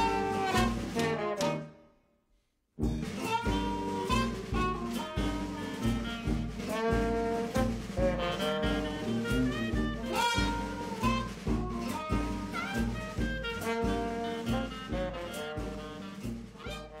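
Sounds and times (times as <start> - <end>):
upbeat jazz music: 0.0 - 1.9, 2.8 - 17.0.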